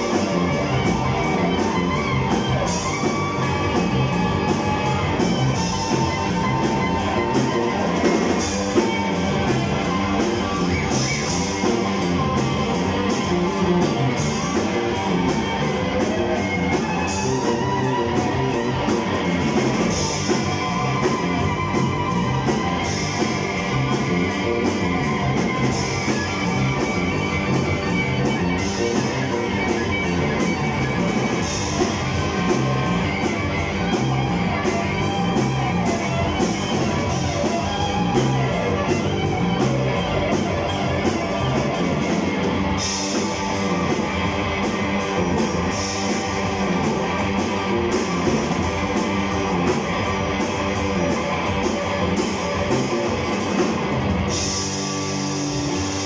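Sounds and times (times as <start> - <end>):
distorted electric guitar: 0.0 - 56.0
drum kit: 0.0 - 56.0
electric bass guitar: 0.0 - 56.0.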